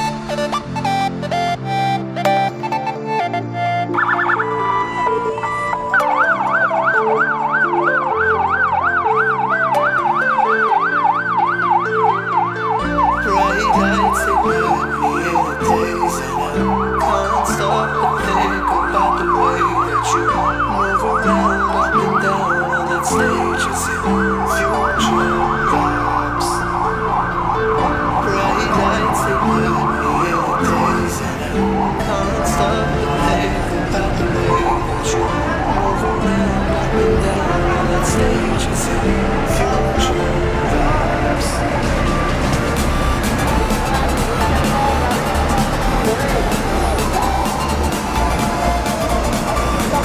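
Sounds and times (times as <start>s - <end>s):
electronic music with beat: 0.0s - 50.0s
police siren warbling: 0.0s - 50.0s.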